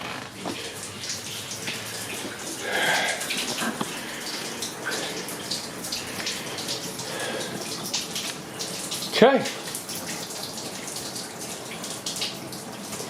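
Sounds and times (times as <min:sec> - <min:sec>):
hose water splashing into aquarium: 0:00.0 - 0:13.0.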